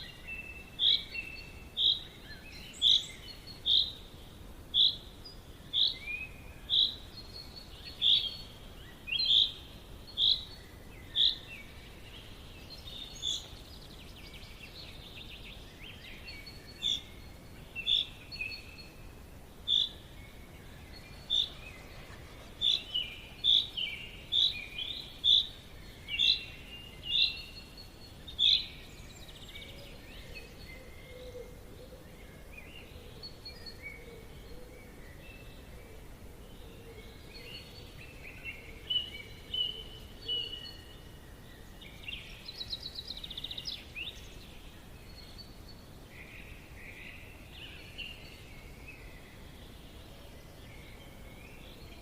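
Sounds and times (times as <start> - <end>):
background hiss: 0.0 - 52.0
birds chirping: 0.0 - 52.0.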